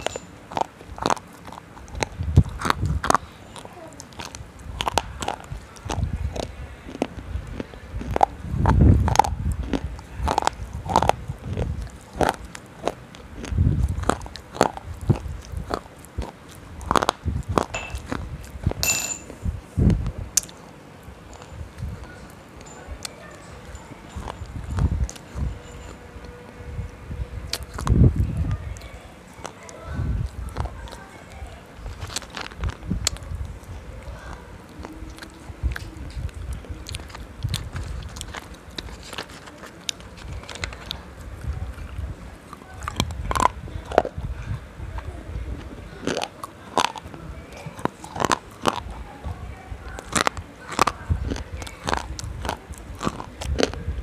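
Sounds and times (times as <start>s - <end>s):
crunching hard food in mouth: 0.0s - 18.8s, 19.8s - 23.2s, 24.1s - 49.1s, 49.8s - 54.0s.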